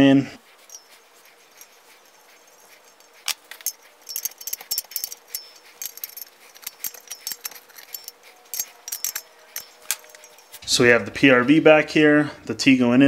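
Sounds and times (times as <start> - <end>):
metal pipe fittings clinking: 0.4 - 11.3.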